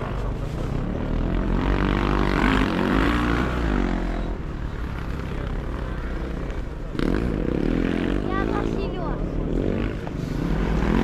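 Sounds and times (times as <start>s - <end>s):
motorcycle engines racing past: 0.0s - 11.0s.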